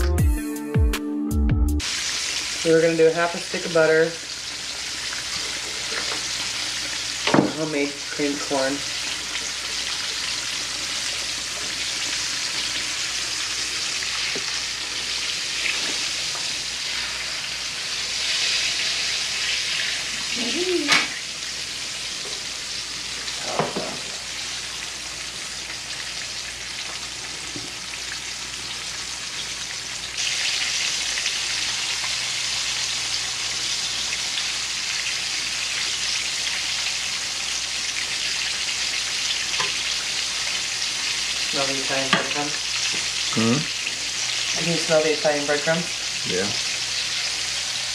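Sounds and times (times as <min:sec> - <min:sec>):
chicken sizzling in oil: 0:01.8 - 0:47.9.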